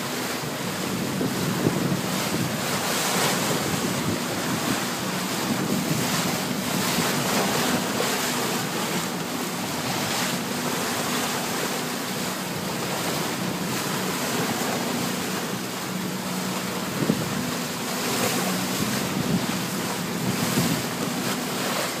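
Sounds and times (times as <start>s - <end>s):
bow wave splashing along hull: 0.0s - 22.0s
low engine hum: 0.0s - 22.0s
wind buffeting microphone: 0.5s - 21.8s.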